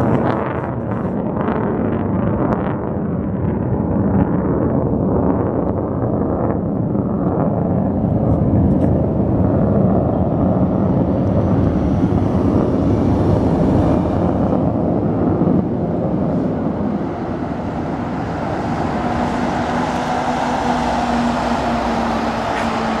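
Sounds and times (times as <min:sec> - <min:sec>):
airplane engine rumble overhead: 0:00.0 - 0:23.0
low hum: 0:00.0 - 0:23.0.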